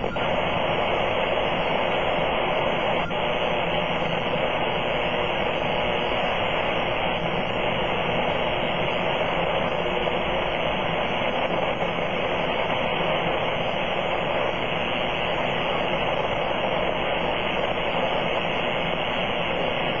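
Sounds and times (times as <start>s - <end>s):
radio static hash: 0.0s - 20.0s.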